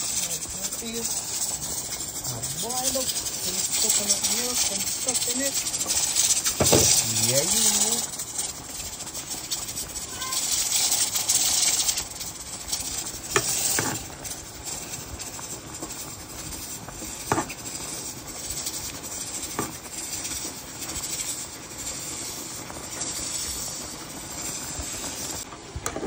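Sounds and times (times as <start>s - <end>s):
liquid boiling hard: 0.0s - 26.0s.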